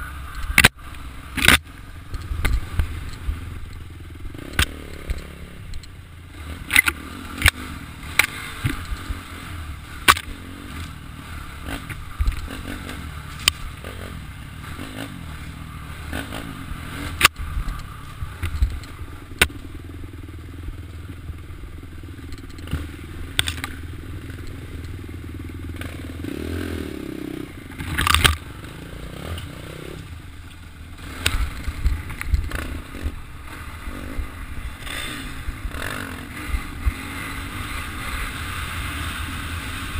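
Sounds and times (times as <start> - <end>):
motorcycle engine running: 0.0 - 39.9
motorcycle knocking and rattling: 0.2 - 15.0, 15.6 - 26.4, 27.0 - 38.3.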